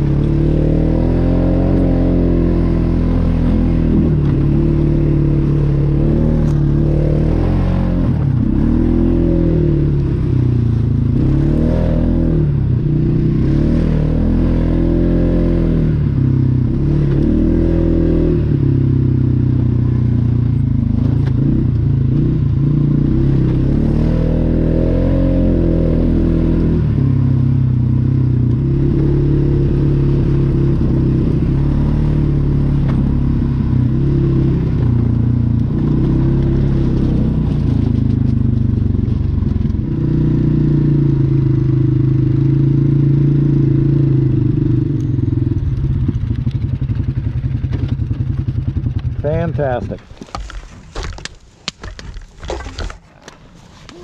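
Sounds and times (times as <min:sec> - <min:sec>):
atv engine revving: 0:00.0 - 0:51.1.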